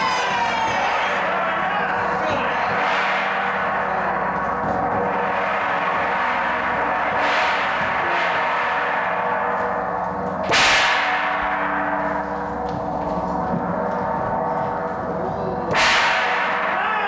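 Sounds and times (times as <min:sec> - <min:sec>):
gong ringing: 0:00.0 - 0:17.0.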